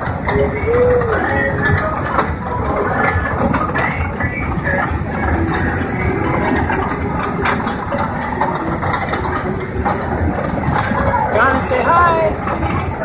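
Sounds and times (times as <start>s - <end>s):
rattling and clicking: 0.0s - 13.0s
tractor rumble: 0.0s - 13.0s.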